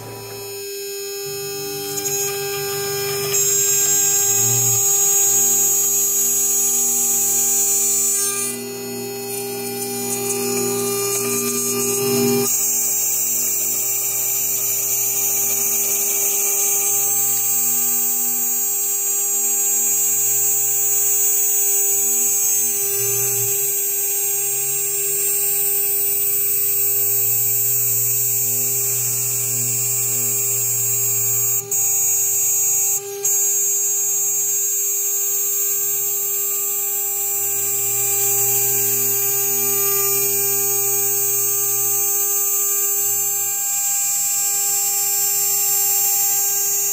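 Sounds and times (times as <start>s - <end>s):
router spindle hum and whine: 0.0s - 46.9s.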